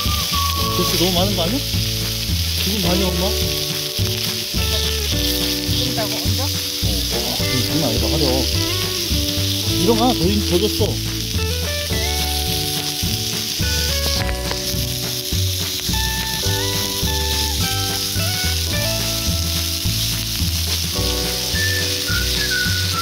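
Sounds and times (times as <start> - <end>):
background music: 0.0 - 23.0
pork sizzling on griddle: 0.0 - 23.0.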